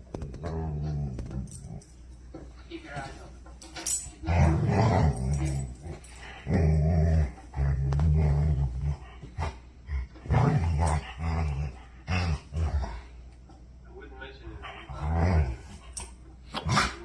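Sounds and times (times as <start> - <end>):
dog growling and grumbling: 0.0 - 2.0, 3.8 - 13.2, 14.6 - 17.0.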